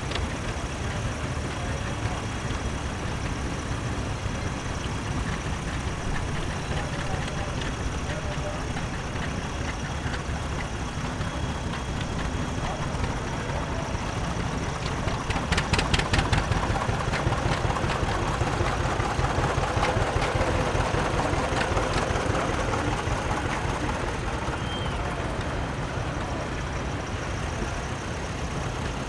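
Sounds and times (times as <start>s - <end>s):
tractor engines rumbling: 0.0s - 29.0s.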